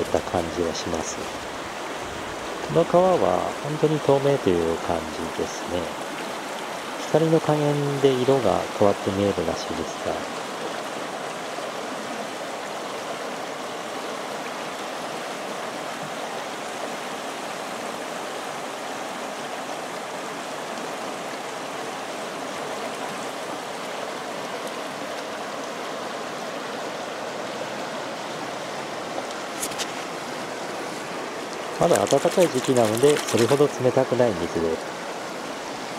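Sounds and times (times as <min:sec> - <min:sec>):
river water rushing over stones: 0:00.0 - 0:35.9.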